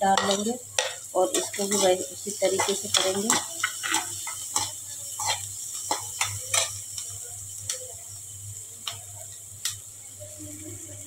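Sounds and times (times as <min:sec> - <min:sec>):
vegetables sizzling: 0:00.0 - 0:11.0.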